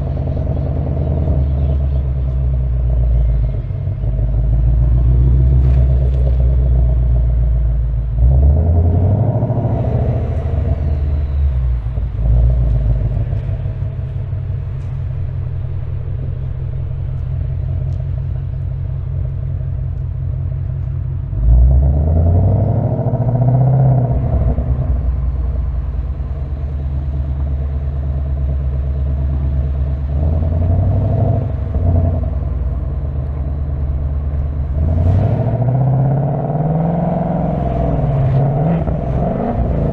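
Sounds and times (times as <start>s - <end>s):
car engine and exhaust rumbling: 0.0s - 39.9s.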